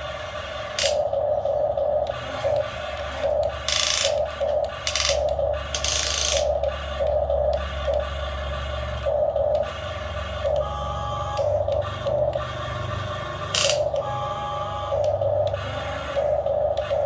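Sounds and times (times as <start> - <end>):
electric motors humming: 0.0 - 17.0
gears whirring: 0.0 - 17.0.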